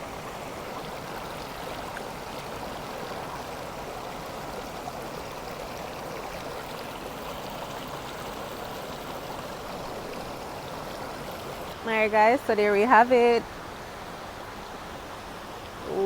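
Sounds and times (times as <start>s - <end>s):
river flowing: 0.0s - 16.0s.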